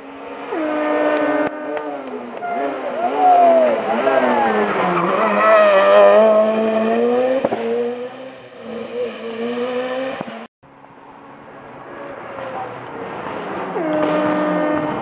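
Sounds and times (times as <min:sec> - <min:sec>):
rally car engine high revs: 0:00.0 - 0:10.5, 0:11.8 - 0:15.0.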